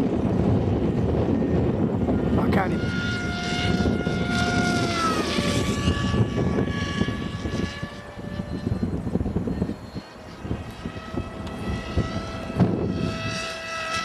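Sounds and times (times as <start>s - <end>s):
electric motor and propeller whining: 0.0s - 14.0s
wind buffeting microphone: 0.0s - 14.0s.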